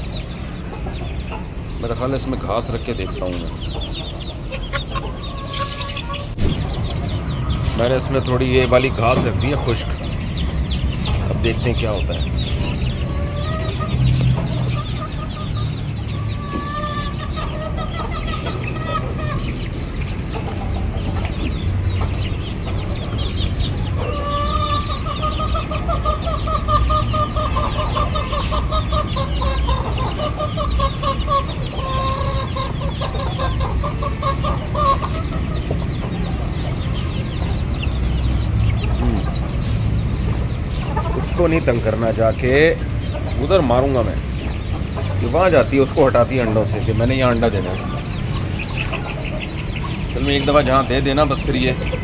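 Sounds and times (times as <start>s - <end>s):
hens clucking: 0.0s - 52.0s.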